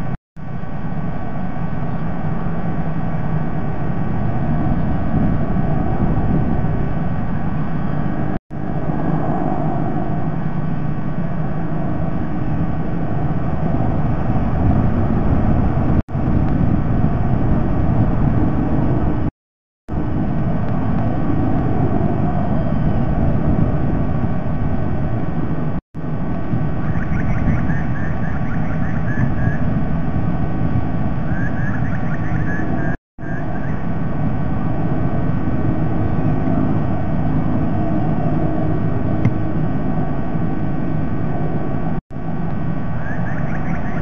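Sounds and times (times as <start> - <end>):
low outdoor rumble: 0.0 - 19.3, 19.9 - 44.0.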